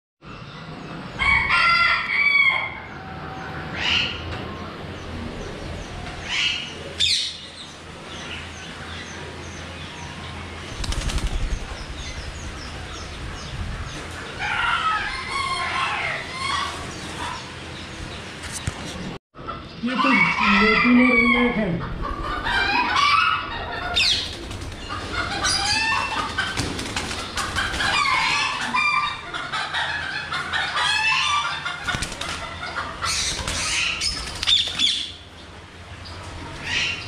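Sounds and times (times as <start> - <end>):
harsh bird calls: 2.3 - 37.0.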